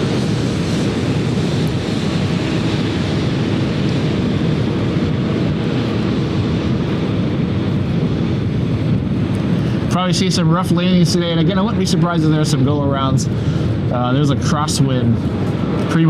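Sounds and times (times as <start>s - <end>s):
jet engine roar: 0.0s - 16.0s
wind buffeting microphone: 0.0s - 16.0s.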